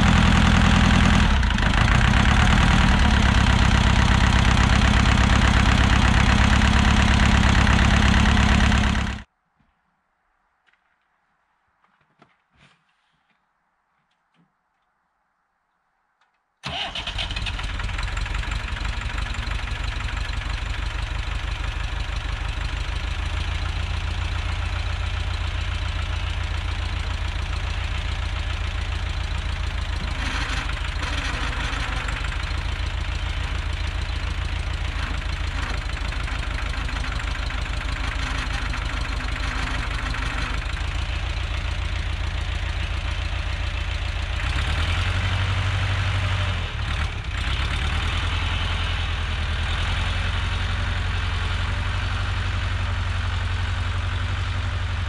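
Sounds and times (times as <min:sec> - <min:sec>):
diesel engine starting and running: 0:00.0 - 0:09.3, 0:16.6 - 0:55.0.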